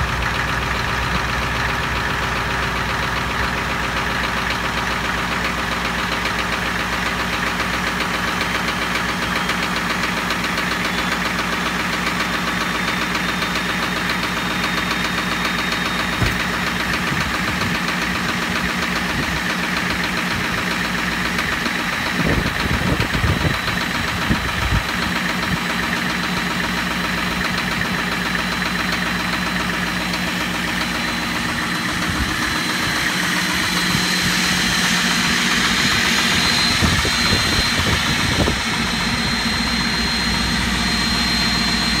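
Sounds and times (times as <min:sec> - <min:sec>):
diesel engine idling: 0:00.0 - 0:42.0
engine knocks: 0:00.0 - 0:42.0.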